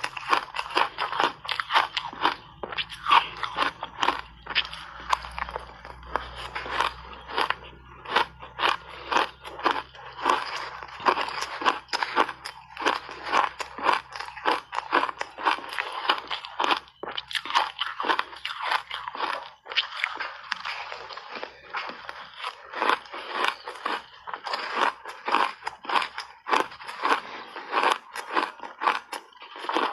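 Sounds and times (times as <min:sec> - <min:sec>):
ice crunching while chewed: 0:00.0 - 0:29.9.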